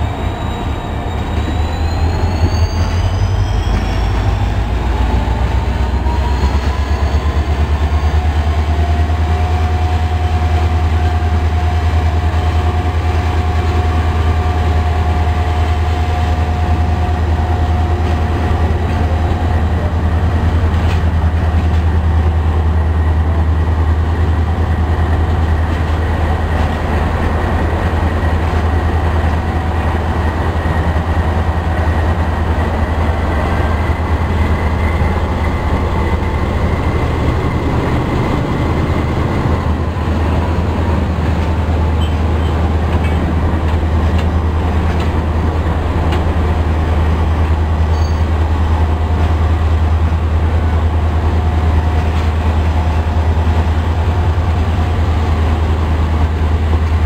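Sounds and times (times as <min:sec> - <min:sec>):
diesel locomotive engine drone: 0:00.0 - 0:57.0
train coaches rolling past: 0:00.0 - 0:57.0.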